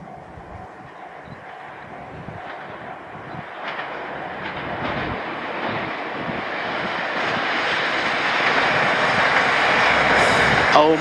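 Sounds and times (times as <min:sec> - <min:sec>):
diesel railcar approaching: 0:00.0 - 0:11.0.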